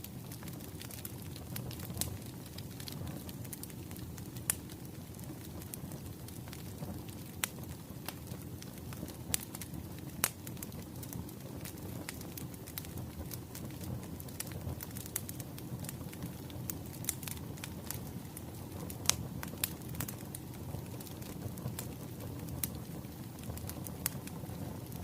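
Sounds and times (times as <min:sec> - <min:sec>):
burning logs rumbling: 0:00.0 - 0:25.0
fire pops and snaps: 0:00.0 - 0:25.0.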